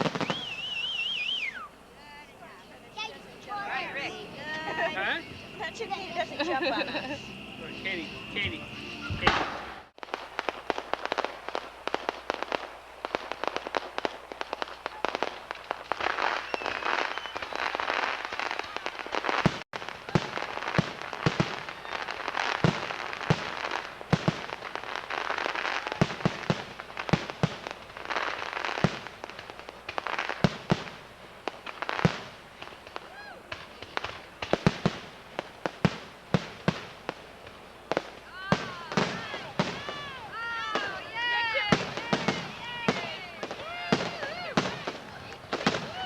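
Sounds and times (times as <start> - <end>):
fireworks bangs: 0.0 - 46.0
fireworks crackling and popping: 0.0 - 46.0.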